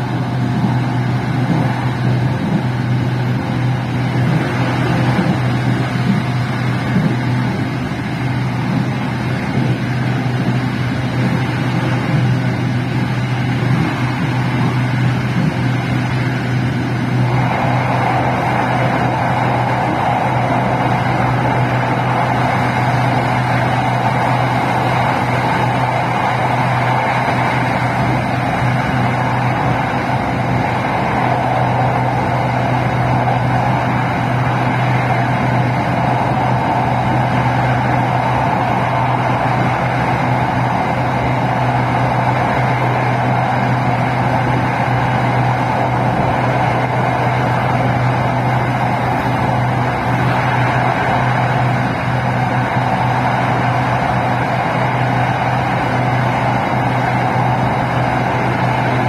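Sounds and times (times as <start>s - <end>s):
electric train running: 0.0s - 59.0s.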